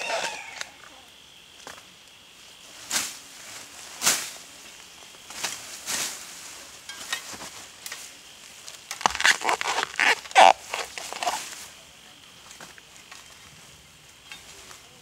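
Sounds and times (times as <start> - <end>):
ferns rustling underfoot: 0.0 - 15.0.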